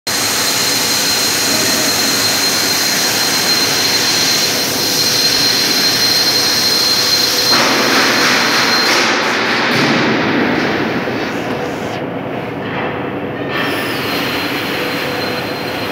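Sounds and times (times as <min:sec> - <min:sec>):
loud machinery noise: 0:00.0 - 0:15.9
thin high whine: 0:00.1 - 0:15.9.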